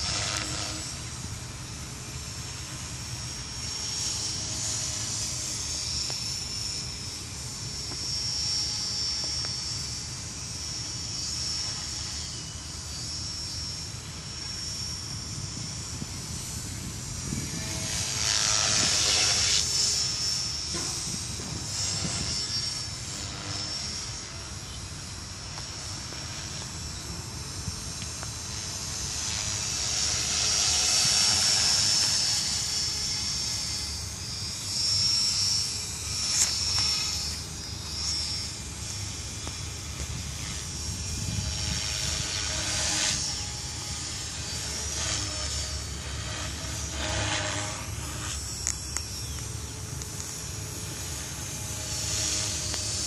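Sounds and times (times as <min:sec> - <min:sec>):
rc helicopter motor whine: 0:00.0 - 0:53.0.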